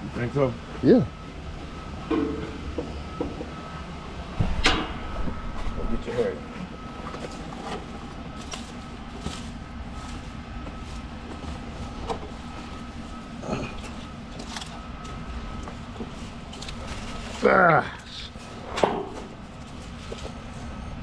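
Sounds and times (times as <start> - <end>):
steady hum with high whine: 0.0 - 21.0.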